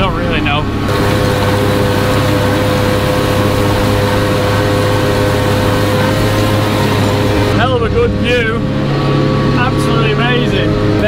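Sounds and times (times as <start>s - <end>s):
tractor engine running under load: 0.0s - 11.0s
mower cutting grass with whine: 0.1s - 11.0s.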